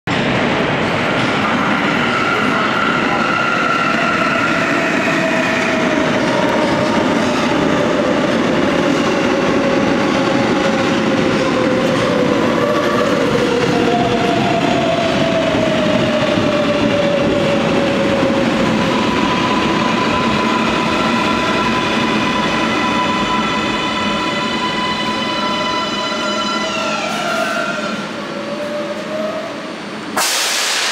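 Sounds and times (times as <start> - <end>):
subway train rumbling on rails: 0.0 - 30.9.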